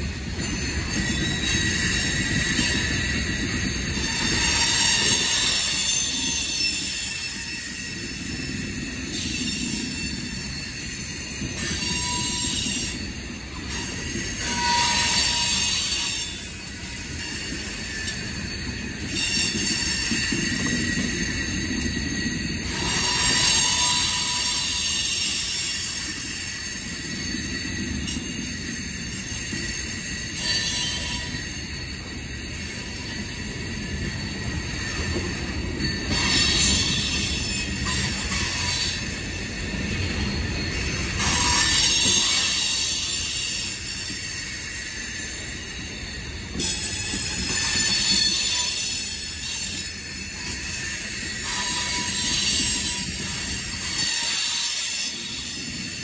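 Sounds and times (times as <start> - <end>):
train wheels rumbling on rail: 0.0 - 56.0
high-pitched wheel squeal: 0.3 - 56.0.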